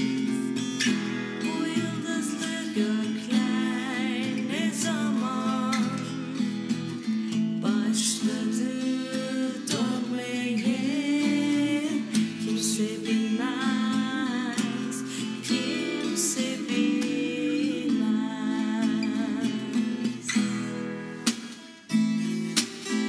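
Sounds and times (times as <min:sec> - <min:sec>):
woman singing slow melody: 0:00.0 - 0:21.2
acoustic guitar: 0:00.0 - 0:23.0.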